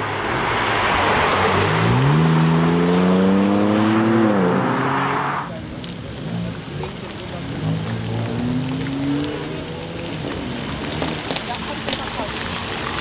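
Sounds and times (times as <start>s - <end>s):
car engine accelerating hard: 0.0s - 11.3s.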